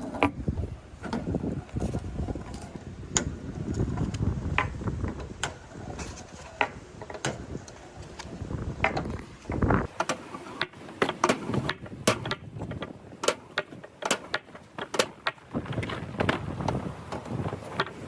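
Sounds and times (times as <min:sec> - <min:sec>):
balls clicking and clacking: 0:00.0 - 0:18.0
balls rolling on wooden track: 0:00.0 - 0:18.0.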